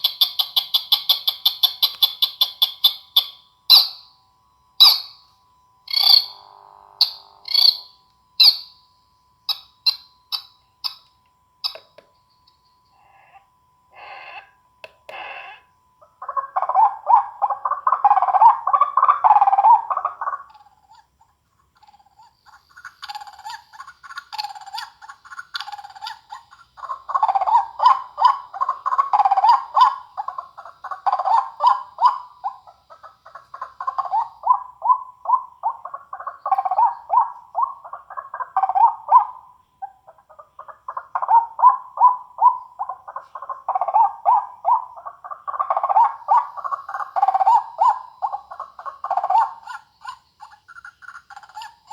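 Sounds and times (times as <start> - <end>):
bird calls through a speaker: 0.0 - 21.2, 21.8 - 51.9.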